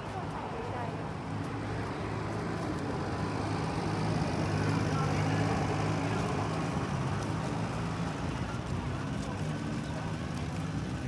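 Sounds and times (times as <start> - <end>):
outdoor background noise: 0.0 - 11.0
vehicle engine humming: 0.0 - 11.0.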